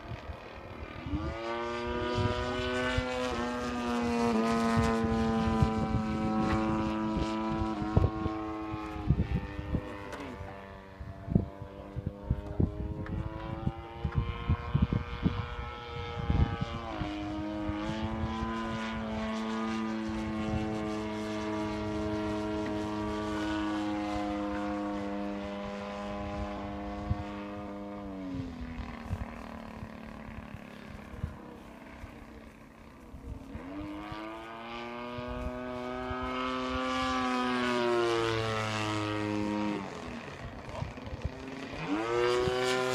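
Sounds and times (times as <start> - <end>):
model plane engine and propeller: 0.0 - 42.9
wind buffeting microphone: 0.0 - 42.9.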